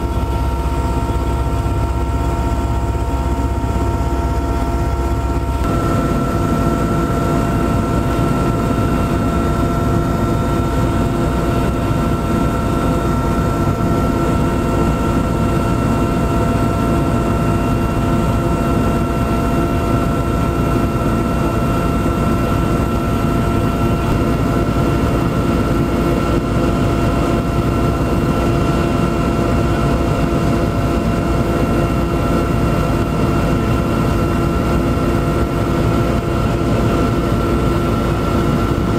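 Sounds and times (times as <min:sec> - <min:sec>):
aircraft engine drone: 0:00.0 - 0:38.9
steady whining tones: 0:00.0 - 0:38.9.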